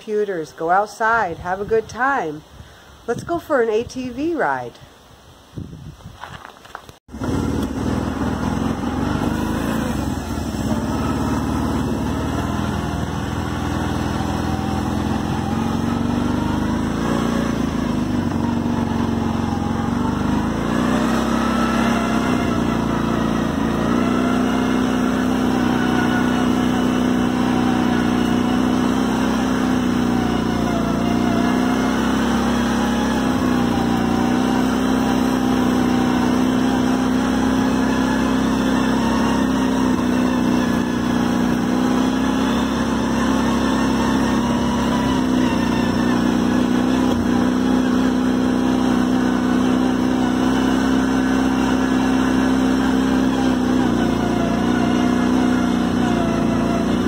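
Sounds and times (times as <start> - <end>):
atv engine running: 7.1 - 57.0.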